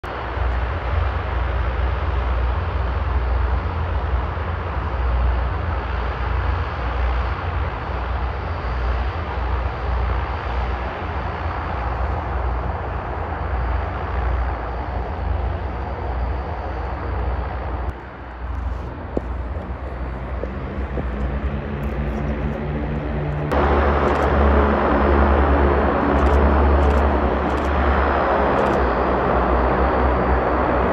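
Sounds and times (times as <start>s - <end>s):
turboprop engines droning: 0.0s - 30.9s.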